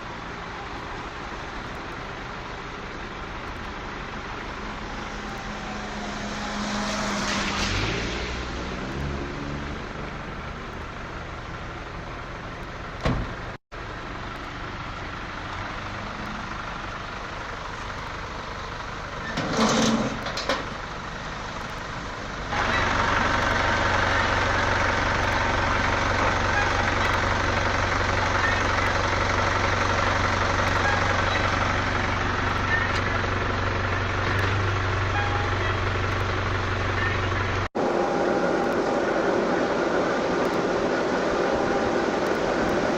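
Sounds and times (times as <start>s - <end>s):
motor vehicle running hum: 0.0s - 42.9s.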